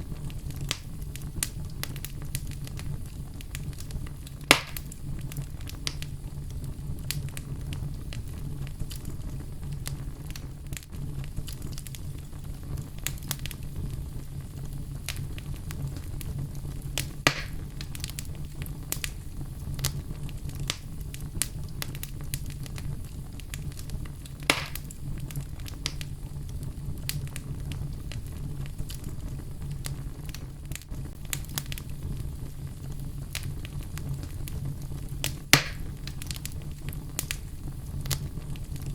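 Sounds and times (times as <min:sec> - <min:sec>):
fire crackling in a fireplace: 0:00.0 - 0:38.9
loud fire pops: 0:00.0 - 0:38.9.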